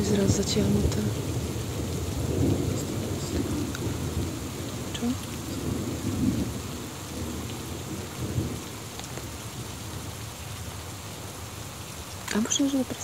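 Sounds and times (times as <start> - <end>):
low rumble of thunder: 0.0 - 13.0
steady rain: 0.0 - 13.0.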